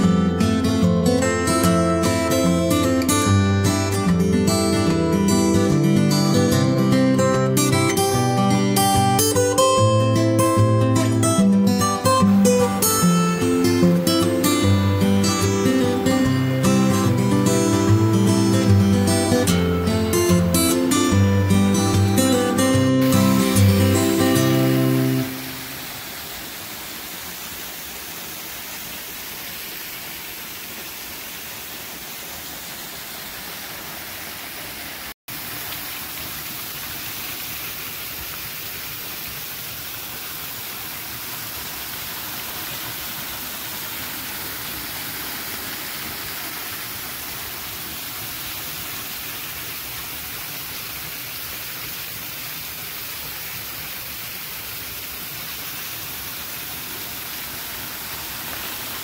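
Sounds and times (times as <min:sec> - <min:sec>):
waterfall splashing on stones: 0:00.7 - 0:59.0.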